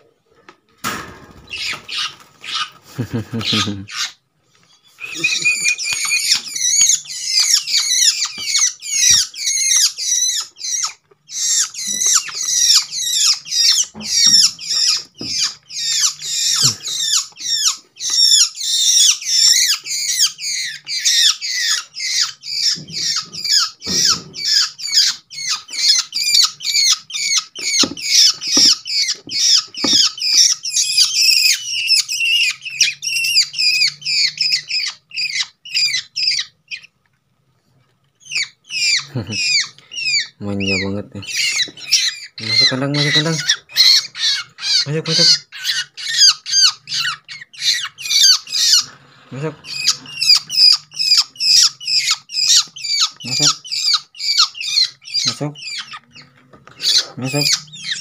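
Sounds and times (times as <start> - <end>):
young birds harsh begging calls: 1.3 - 4.2, 4.9 - 36.9, 38.2 - 58.0.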